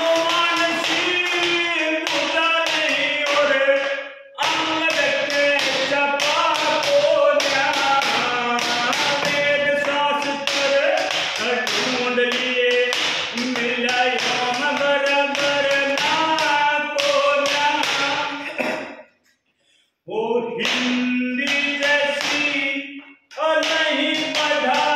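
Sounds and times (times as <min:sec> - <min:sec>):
man singing unaccompanied: 0:00.0 - 0:18.6, 0:20.1 - 0:24.9.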